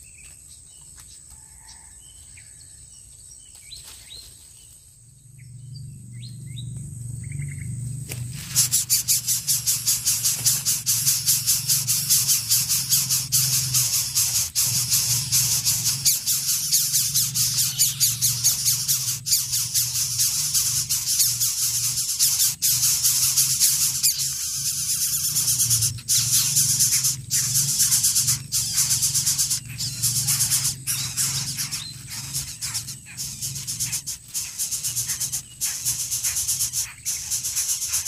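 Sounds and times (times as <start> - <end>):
steady low hum: 4.3 - 38.0
nestlings begging with rasping hiss: 5.4 - 38.0.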